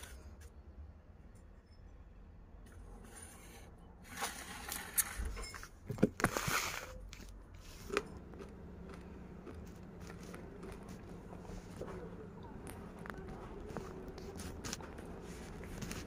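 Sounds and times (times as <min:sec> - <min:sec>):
handling clicks and scrapes: 0:02.7 - 0:16.0.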